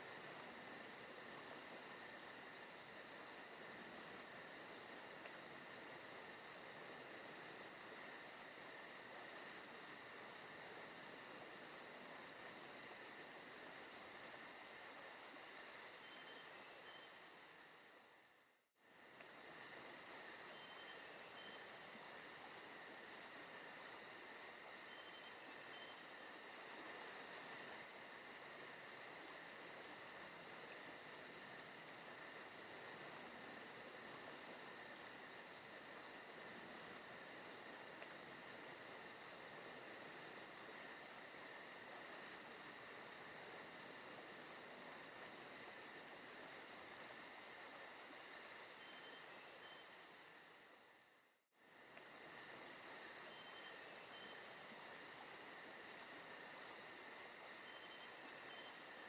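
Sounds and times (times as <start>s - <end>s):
crickets chirring: 0.1s - 59.0s.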